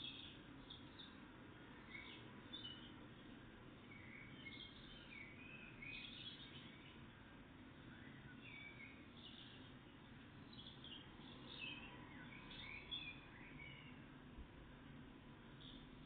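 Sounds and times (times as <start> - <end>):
faint birdsong chirps: 0.0 - 16.0
low background rumble: 0.0 - 16.0.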